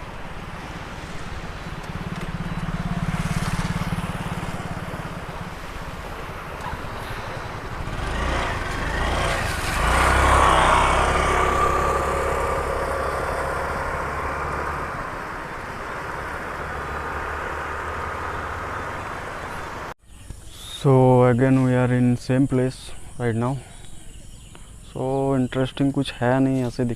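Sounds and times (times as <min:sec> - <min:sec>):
vehicle engine and road noise: 0:00.0 - 0:26.9.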